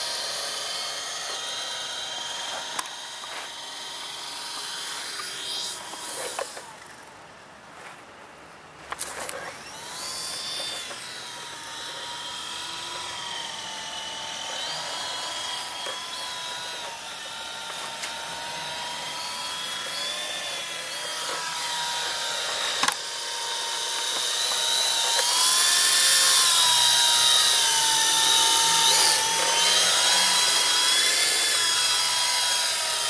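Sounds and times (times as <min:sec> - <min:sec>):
rc helicopter motor and rotor whining: 0:00.0 - 0:07.2, 0:08.9 - 0:33.0.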